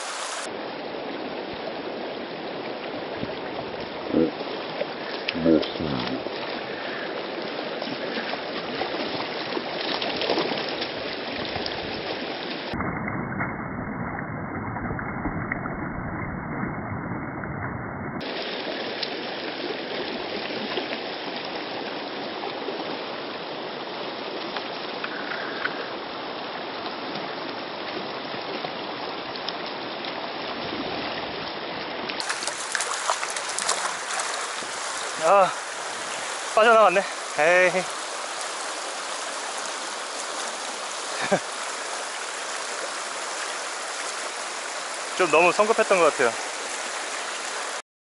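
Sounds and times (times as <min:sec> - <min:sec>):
stream rushing over rocks: 0:00.0 - 0:12.8, 0:18.2 - 0:47.8.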